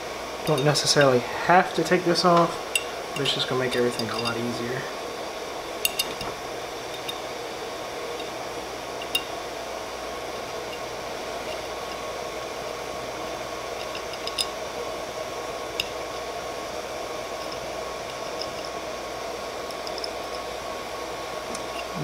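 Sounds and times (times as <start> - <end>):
small cooling fans whirring: 0.0 - 22.0.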